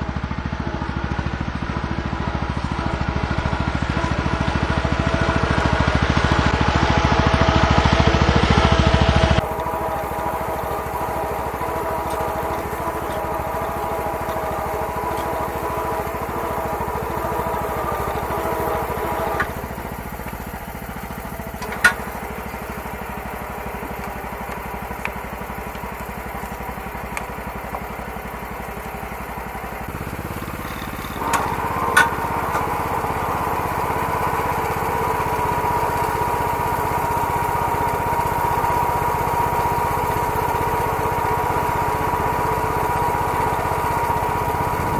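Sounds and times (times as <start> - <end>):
small tractor engine running: 0.0 - 44.9.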